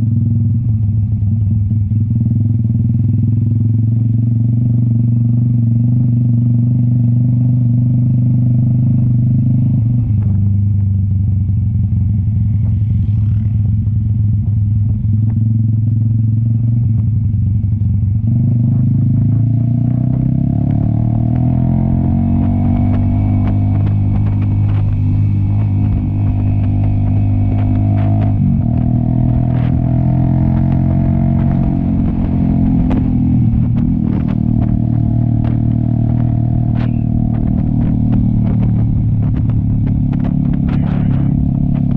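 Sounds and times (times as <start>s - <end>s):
motorcycle engine: 0.0s - 41.9s.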